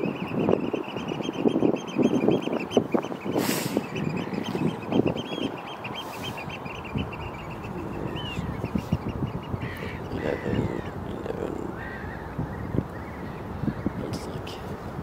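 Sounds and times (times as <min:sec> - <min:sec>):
birds piping high calls: 0:00.0 - 0:14.5
wind rumbling on microphone: 0:00.0 - 0:15.0.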